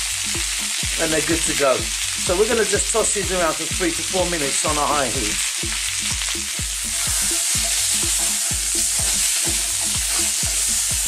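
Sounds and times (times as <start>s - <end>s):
background music beat: 0.0s - 11.0s
food sizzling in hot oil: 0.0s - 11.0s.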